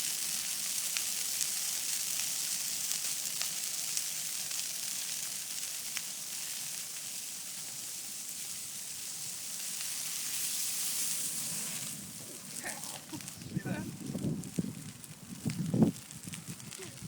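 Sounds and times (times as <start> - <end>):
bonfire hissing: 0.0 - 17.0
fire crackles: 0.0 - 17.0.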